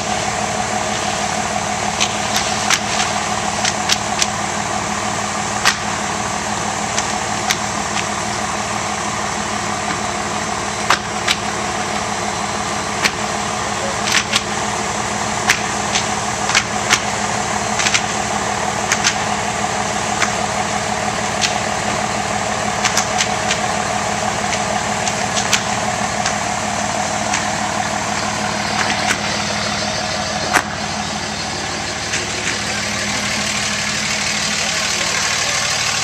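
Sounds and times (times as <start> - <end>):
fire engine pump droning: 0.0 - 36.0
fire crackling and popping: 0.2 - 6.3, 9.4 - 14.7, 15.3 - 35.2.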